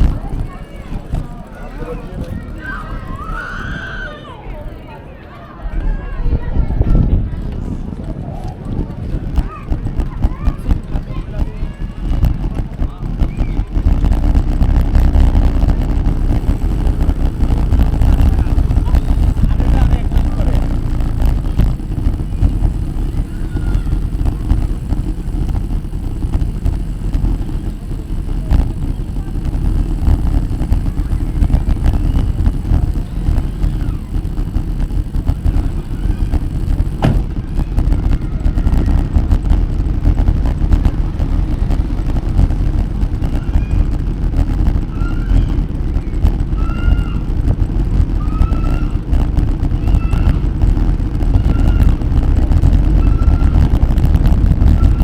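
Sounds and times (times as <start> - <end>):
wind buffeting microphone: 0.0 - 4.9, 5.6 - 55.0.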